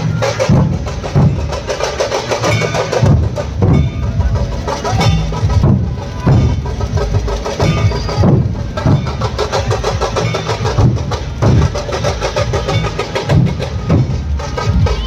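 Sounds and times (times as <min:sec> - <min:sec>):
dhol drums beating: 0:00.0 - 0:15.0.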